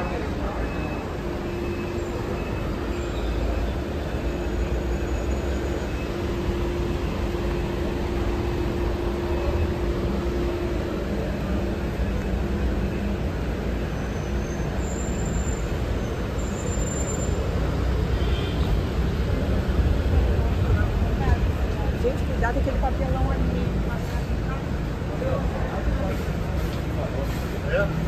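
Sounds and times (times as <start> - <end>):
vehicle engines rumbling: 0.0 - 28.0.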